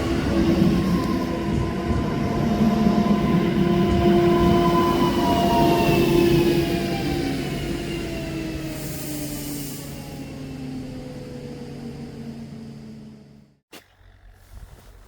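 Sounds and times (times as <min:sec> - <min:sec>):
train passing with whine: 0:00.0 - 0:13.6.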